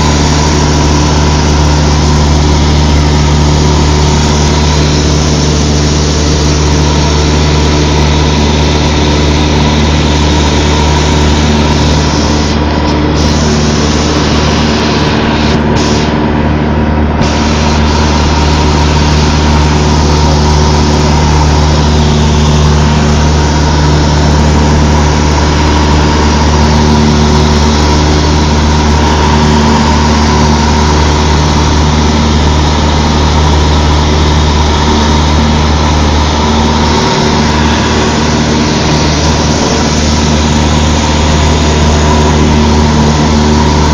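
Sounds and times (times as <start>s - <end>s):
light aircraft engine droning: 0.0s - 43.9s.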